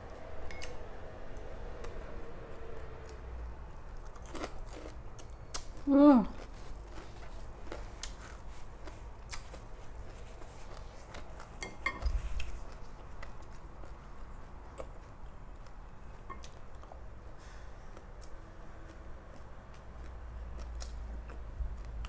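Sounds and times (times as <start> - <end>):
person chewing: 3.0 - 22.0.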